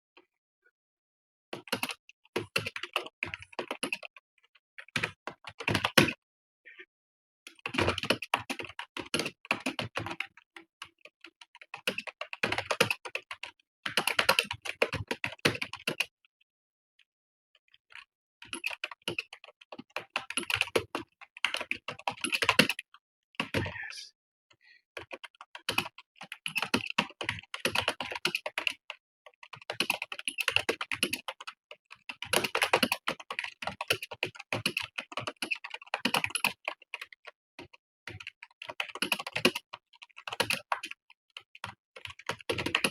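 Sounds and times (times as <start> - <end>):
typing on computer keyboard: 1.5 - 6.2, 7.5 - 16.1, 17.9 - 23.6, 25.0 - 42.9.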